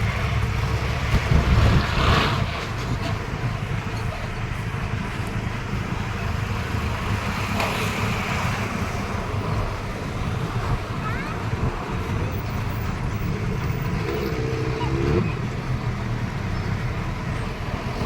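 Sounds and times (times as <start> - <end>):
vehicle rumbling: 0.0 - 18.0
wind: 0.0 - 18.0.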